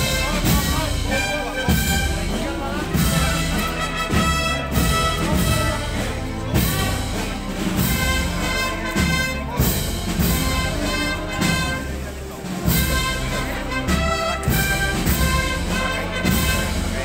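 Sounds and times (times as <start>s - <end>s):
drum beats: 0.0s - 17.0s
sustained brass chords: 0.0s - 17.0s
wind band playing a slow march: 0.0s - 17.0s.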